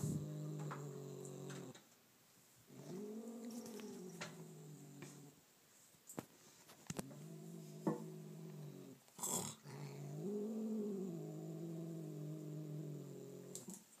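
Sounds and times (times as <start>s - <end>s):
cat growling: 0.0s - 1.8s, 2.7s - 5.4s, 6.9s - 13.7s.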